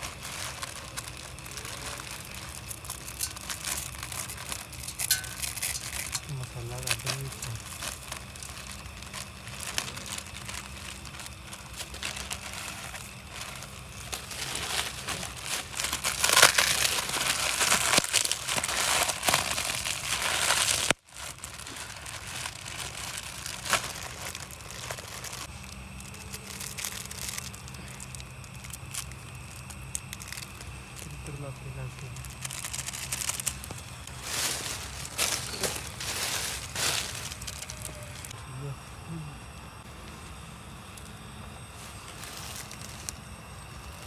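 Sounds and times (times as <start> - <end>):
plastic packets tearing and crinkling: 0.0 - 38.4, 41.9 - 44.0.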